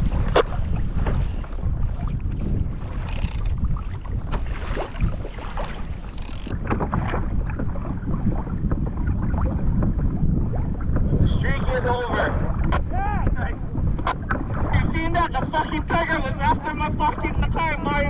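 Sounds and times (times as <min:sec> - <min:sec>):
water splashing against kayak hull: 0:00.0 - 0:11.0, 0:12.1 - 0:17.7
wind buffeting microphone: 0:00.0 - 0:18.0.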